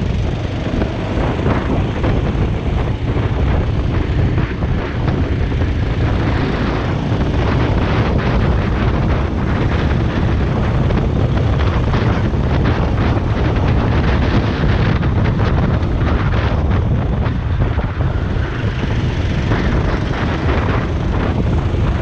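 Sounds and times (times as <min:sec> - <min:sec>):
go-kart engine racing: 0:00.0 - 0:22.0
wind buffeting microphone: 0:00.0 - 0:22.0.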